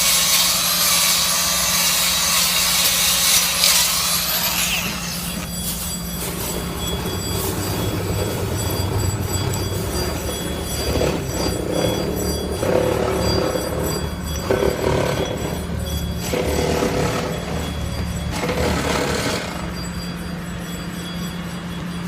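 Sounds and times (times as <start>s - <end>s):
machinery humming: 0.0s - 22.0s
rough machine noise: 0.0s - 22.0s.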